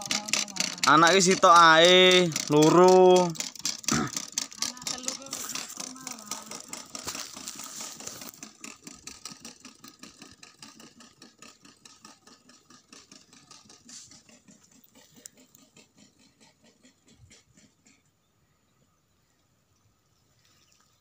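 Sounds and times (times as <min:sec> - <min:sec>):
corn planter clicking and rattling: 0:00.0 - 0:18.0.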